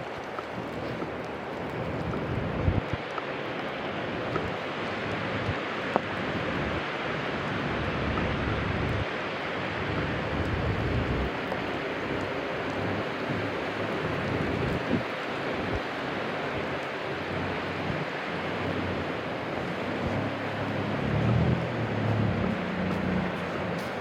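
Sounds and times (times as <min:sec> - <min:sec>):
street rushing noise: 0:00.0 - 0:24.0
wind buffeting microphone: 0:00.0 - 0:24.0.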